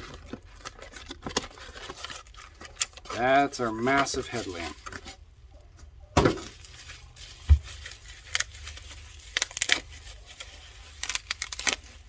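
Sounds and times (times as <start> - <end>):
wrapping crinkling and tearing: 0.0 - 5.2, 6.4 - 12.0.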